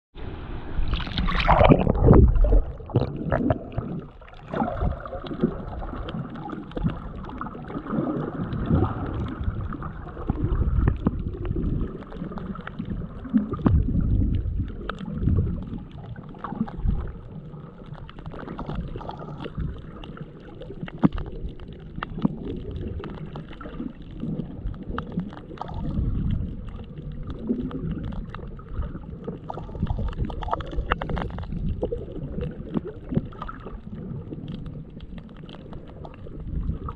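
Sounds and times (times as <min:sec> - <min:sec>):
underwater water rumble: 0:00.2 - 0:36.9.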